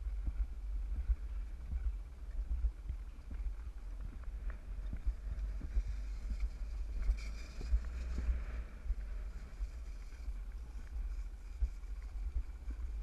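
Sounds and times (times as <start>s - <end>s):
sled rumbling on track: 0.0s - 13.0s
wind noise on microphone: 0.0s - 13.0s.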